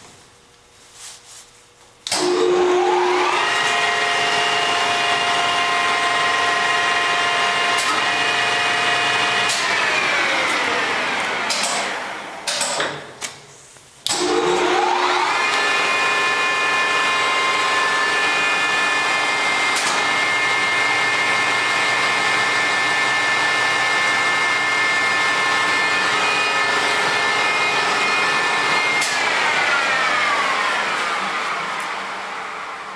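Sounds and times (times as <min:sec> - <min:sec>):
lathe motor whining: 0:02.1 - 0:12.5, 0:14.1 - 0:32.9.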